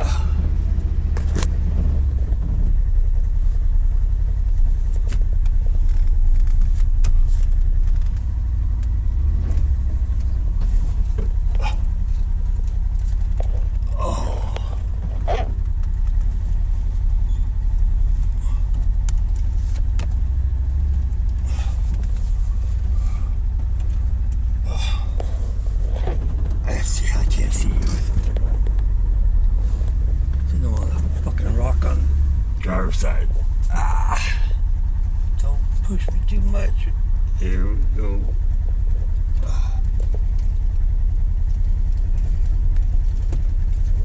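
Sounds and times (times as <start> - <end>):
car engine rumble: 0.0 - 44.0
road noise: 0.0 - 44.0.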